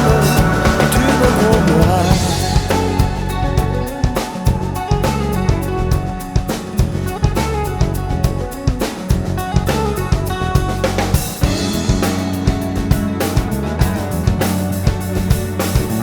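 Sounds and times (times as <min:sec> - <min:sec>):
drum kit beat: 0:00.0 - 0:16.0
pop instrumental music: 0:00.0 - 0:16.0.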